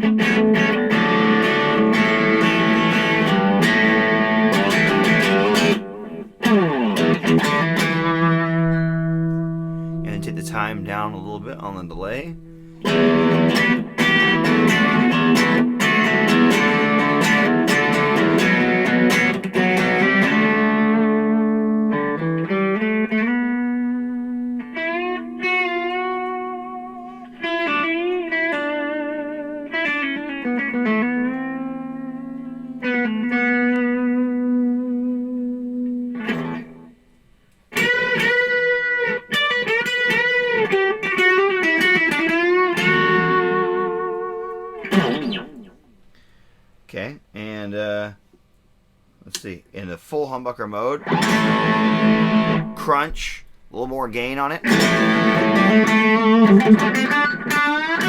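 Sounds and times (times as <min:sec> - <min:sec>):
electric guitar with crunch: 0:00.0 - 0:46.6, 0:50.9 - 0:58.0.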